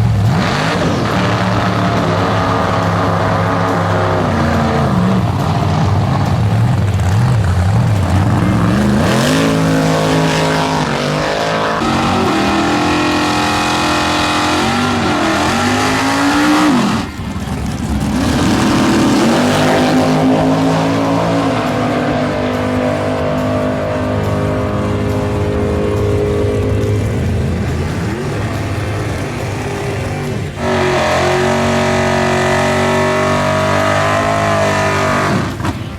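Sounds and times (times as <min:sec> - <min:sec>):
drag race car engines revving: 0:00.0 - 0:35.9.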